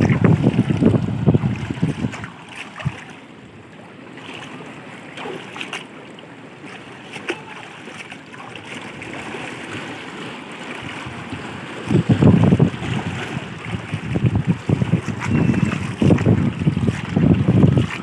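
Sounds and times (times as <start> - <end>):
small splashes: 0.0 - 3.3, 4.2 - 18.0
small waves washing over rocks: 0.0 - 18.0.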